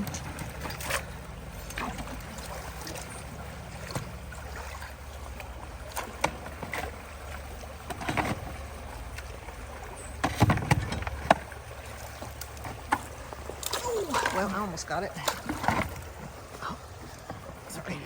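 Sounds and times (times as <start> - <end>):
knocks and splashes: 0.0 - 18.0
water running at a culvert: 0.0 - 18.0.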